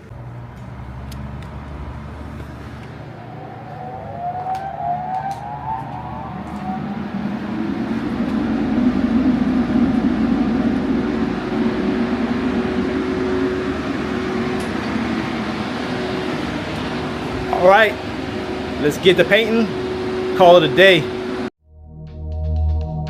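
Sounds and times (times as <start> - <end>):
exhaust fan droning hum: 0.0 - 21.5
air compressor rushing air: 0.7 - 21.5.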